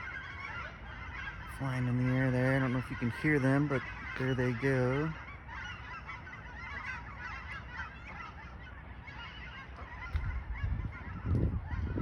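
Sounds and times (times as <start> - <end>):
flock of waterfowl calling: 0.0 - 12.0.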